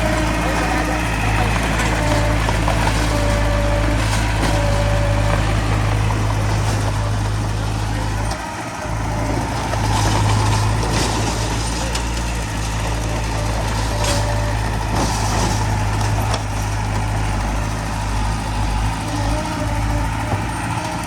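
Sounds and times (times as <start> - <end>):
heavy machinery diesel engines: 0.0 - 21.0.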